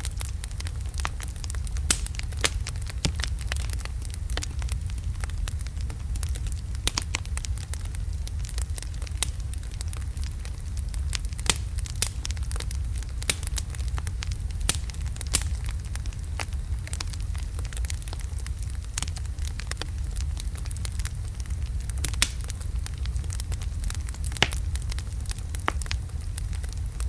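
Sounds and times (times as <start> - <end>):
burning wood crackling and popping: 0.0 - 27.0
fireplace flames rumbling: 0.0 - 27.0.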